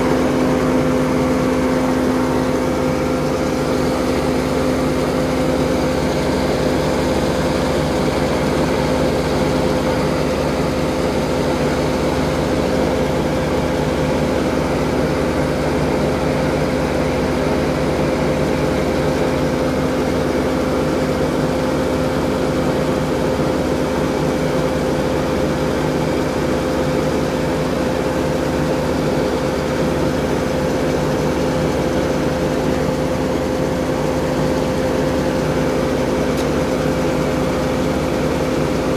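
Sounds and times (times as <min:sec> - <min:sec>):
grain auger drone: 0:00.0 - 0:38.9.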